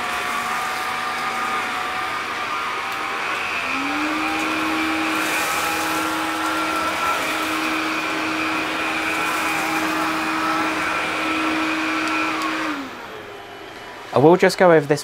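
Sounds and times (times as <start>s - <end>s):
vacuum cleaner motor hum: 0.0s - 14.2s
vacuum sucking hiss: 0.0s - 14.3s.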